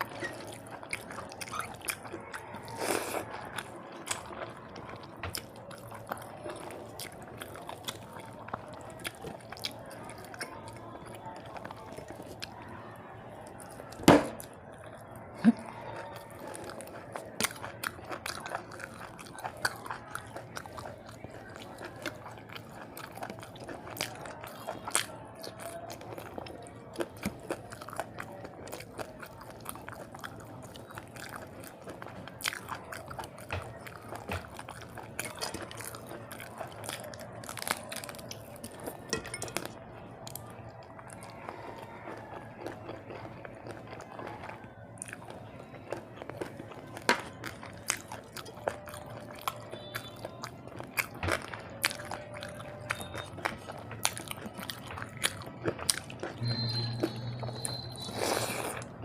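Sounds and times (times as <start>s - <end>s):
person chewing and crunching food: 0.0s - 12.6s, 13.4s - 59.0s.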